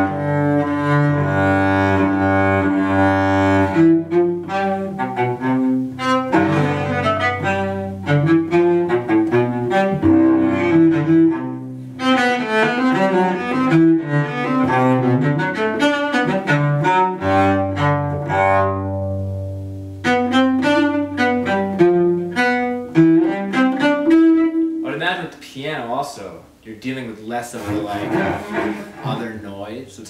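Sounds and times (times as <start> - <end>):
solo cello bowed: 0.0 - 24.9, 27.6 - 29.3.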